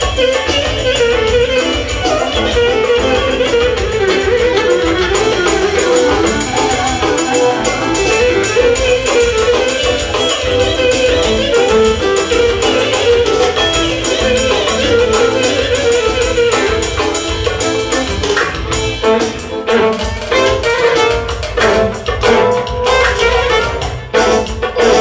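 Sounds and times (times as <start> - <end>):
drums: 0.0 - 25.0
electric violin melody: 0.0 - 25.0.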